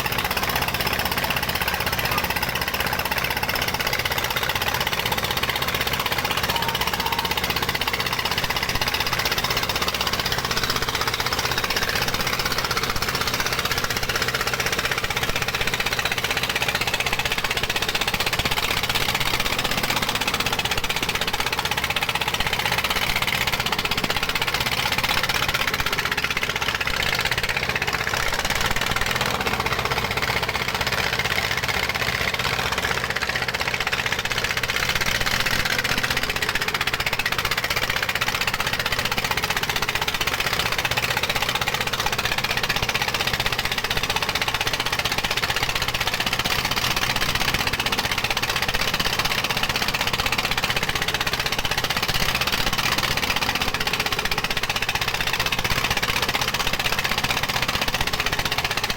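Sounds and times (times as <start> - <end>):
diesel engine clattering: 0.0 - 58.9.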